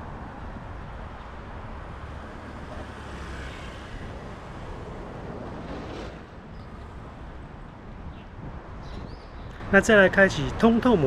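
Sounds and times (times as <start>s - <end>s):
passing vehicles rumble: 0.0s - 11.0s.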